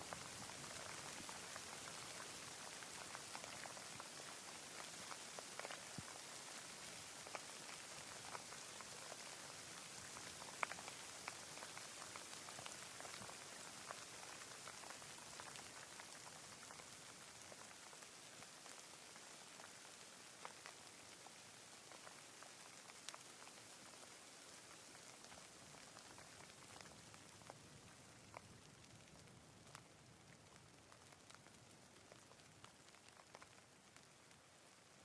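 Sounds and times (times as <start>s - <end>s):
raindrops ticking on a surface: 0.0s - 35.0s
steady rain hiss: 0.0s - 35.0s.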